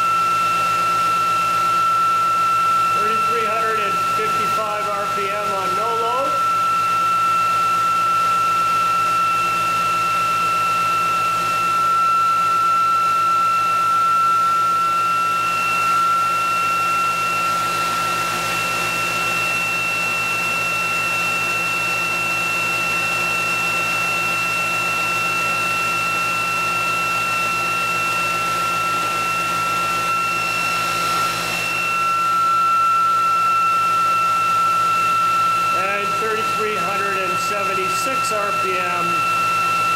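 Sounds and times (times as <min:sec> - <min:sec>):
motor high whine: 0:00.0 - 0:39.9.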